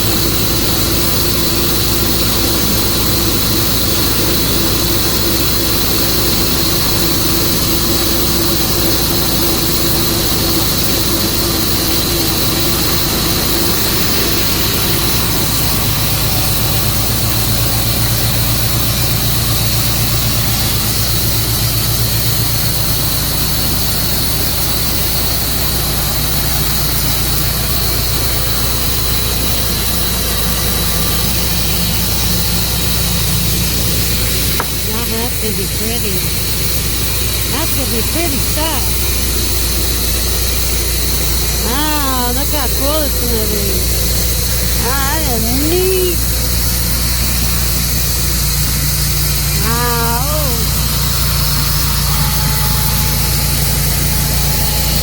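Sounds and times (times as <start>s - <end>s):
high whine: 0.0s - 55.0s
sawmill engine running: 0.0s - 55.0s.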